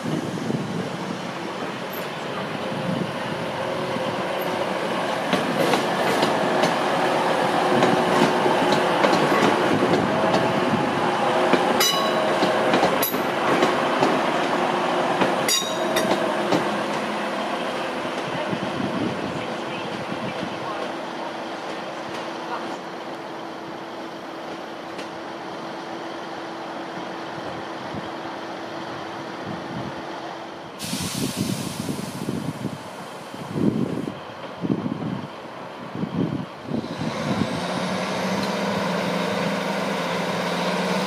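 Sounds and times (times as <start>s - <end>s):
diesel train rumbling past: 0.0s - 41.0s.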